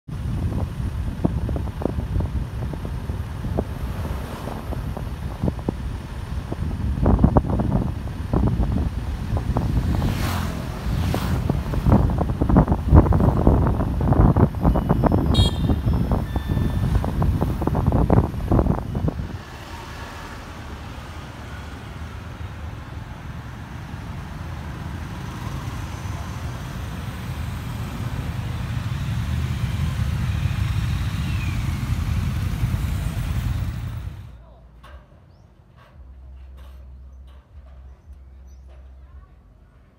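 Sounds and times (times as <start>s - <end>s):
wind buffeting microphone: 0.1s - 34.3s
motorbikes and cars passing: 0.2s - 34.4s.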